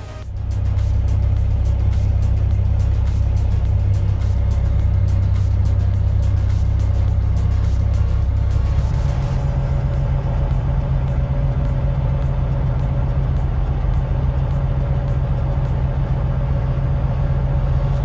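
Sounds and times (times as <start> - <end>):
heavy machine engine rumbling: 0.0 - 18.0
steady hum: 0.0 - 18.0.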